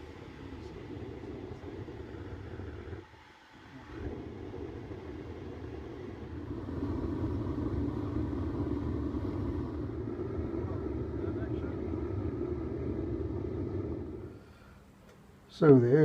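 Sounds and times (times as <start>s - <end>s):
gas burner rumbling: 0.0s - 16.0s.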